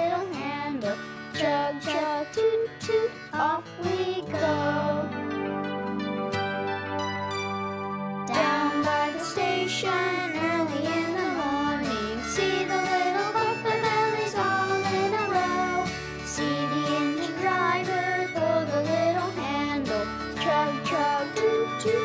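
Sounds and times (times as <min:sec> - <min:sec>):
instrumental children's tune: 0:00.0 - 0:22.0.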